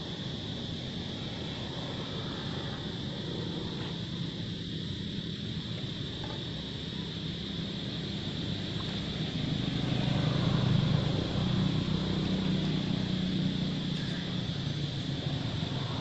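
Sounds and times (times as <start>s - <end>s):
low engine-like drone: 0.0s - 16.0s.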